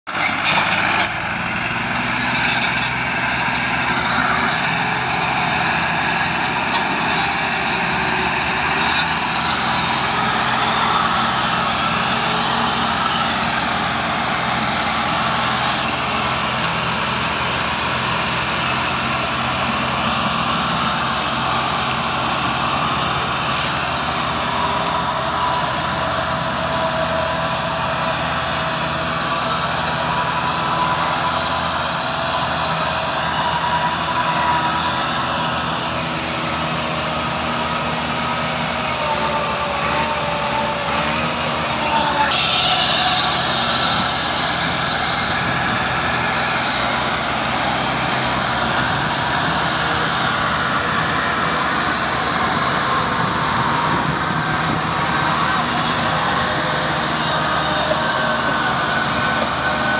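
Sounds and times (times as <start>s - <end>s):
tractor engines under load: 0.1s - 59.9s.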